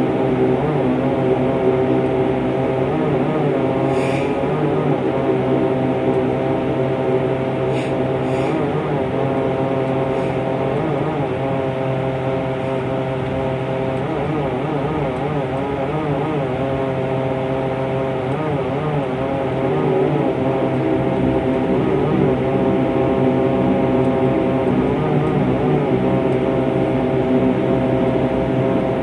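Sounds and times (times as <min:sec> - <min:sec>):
propeller airplane engines droning: 0:00.0 - 0:29.0.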